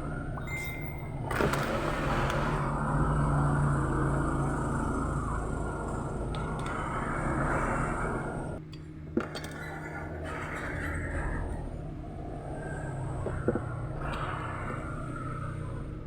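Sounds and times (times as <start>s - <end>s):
low background rumble with hum: 0.0s - 16.0s.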